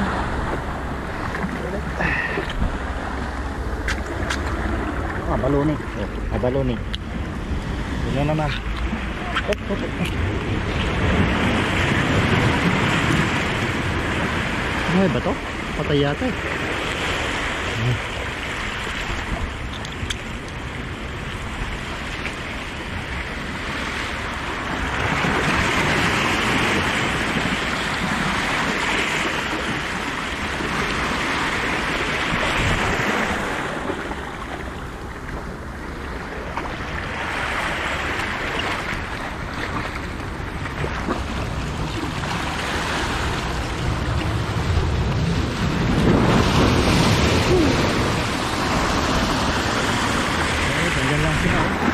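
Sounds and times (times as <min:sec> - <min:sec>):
surf breaking over rocks: 0:00.0 - 0:51.9.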